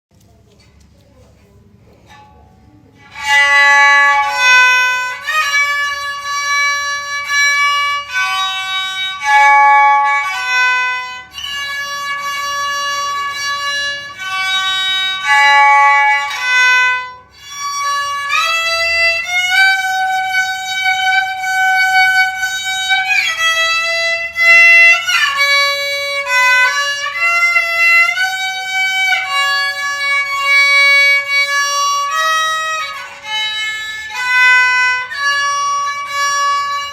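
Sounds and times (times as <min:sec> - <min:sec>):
bowed string melody with pitch glides: 0:02.1 - 0:36.9.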